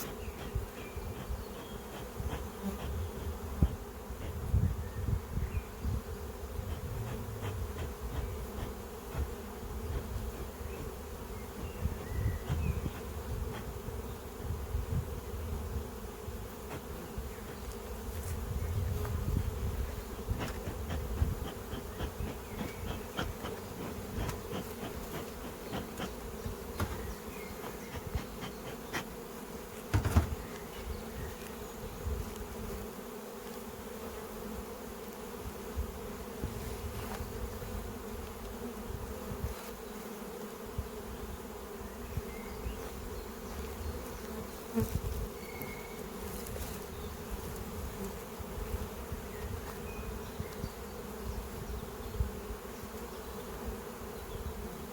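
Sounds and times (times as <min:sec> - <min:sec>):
honeybees buzzing: 0:00.0 - 0:54.9.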